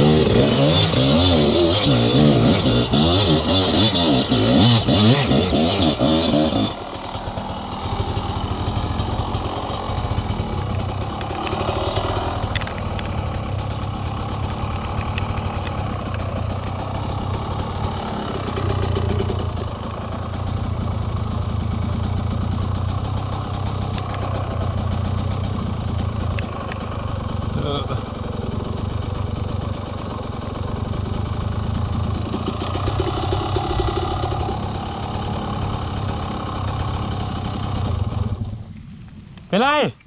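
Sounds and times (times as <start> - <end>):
dirt bike engine running: 0.0 - 39.8.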